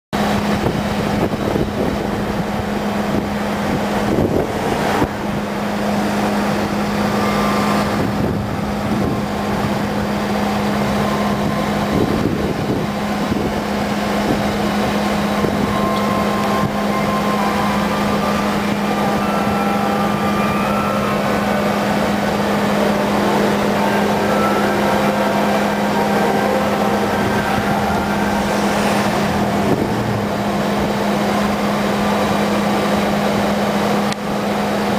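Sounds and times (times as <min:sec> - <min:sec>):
car road and engine noise: 0:00.2 - 0:34.9.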